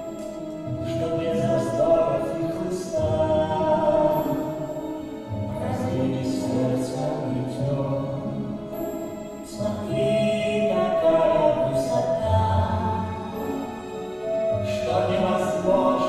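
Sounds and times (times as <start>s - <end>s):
voices singing over music: 0.0s - 16.0s.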